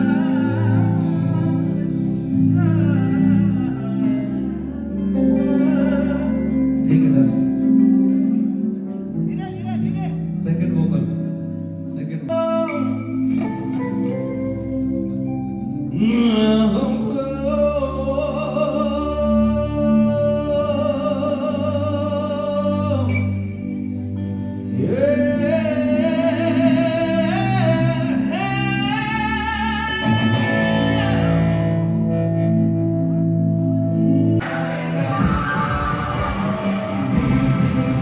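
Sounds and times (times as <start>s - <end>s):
person singing: 0.0s - 10.4s, 12.2s - 32.1s, 34.4s - 38.0s
guitar: 0.0s - 38.0s.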